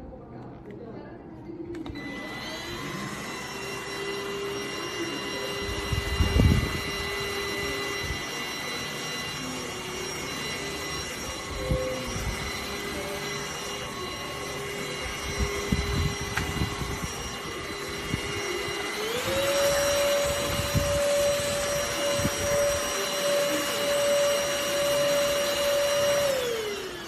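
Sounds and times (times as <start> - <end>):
vacuum cleaner motor whining: 1.7 - 27.0.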